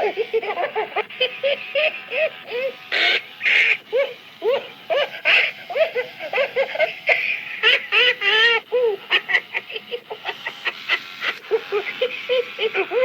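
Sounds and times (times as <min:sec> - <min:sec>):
toy recorded giggling: 0:00.0 - 0:13.0.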